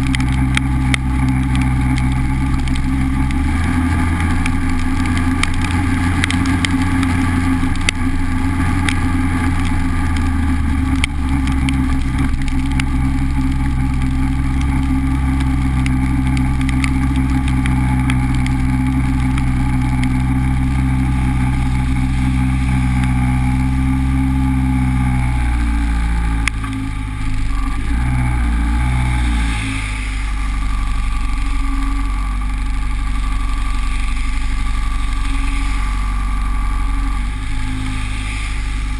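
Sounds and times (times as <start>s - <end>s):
car engine running: 0.0s - 38.9s
road and wind noise: 0.0s - 38.9s.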